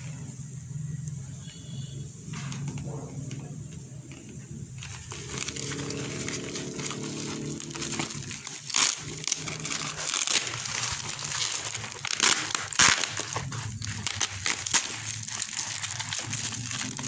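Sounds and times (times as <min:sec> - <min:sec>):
plastic and paper wrapping crinkling: 0:02.3 - 0:17.0.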